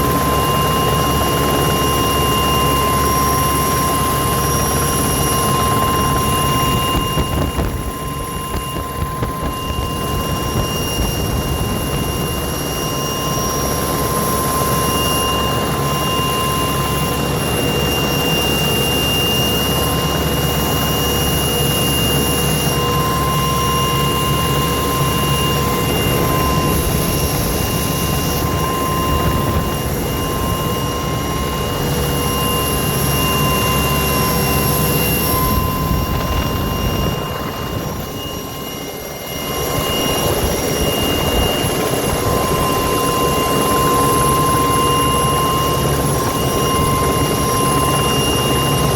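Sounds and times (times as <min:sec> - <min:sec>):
aircraft propellers whining: 0:00.0 - 0:48.9.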